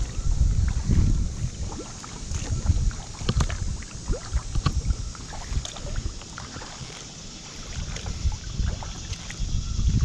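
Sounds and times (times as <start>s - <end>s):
kayak paddle splashing: 0.0s - 10.0s.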